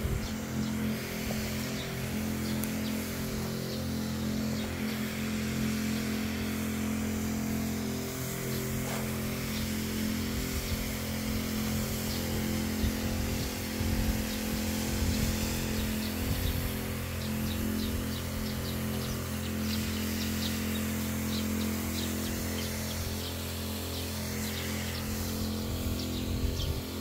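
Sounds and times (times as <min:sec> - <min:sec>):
sprayer pump humming: 0:00.0 - 0:27.0.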